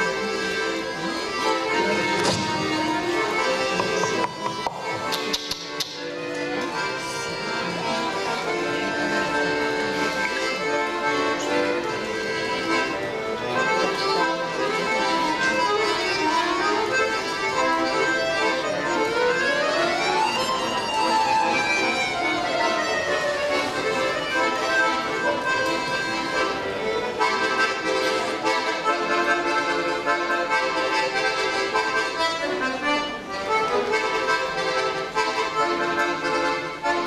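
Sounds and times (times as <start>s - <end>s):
accordions playing a duet: 0.0s - 37.0s.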